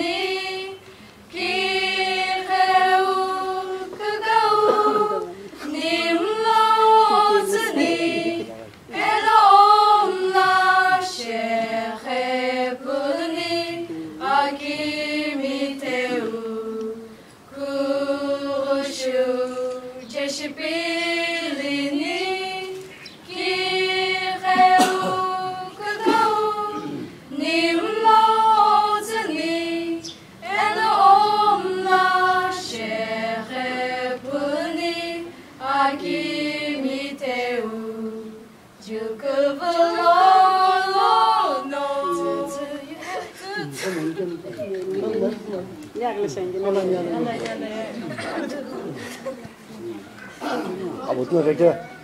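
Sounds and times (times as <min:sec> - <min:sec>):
young voices singing unaccompanied: 0:00.0 - 0:46.0.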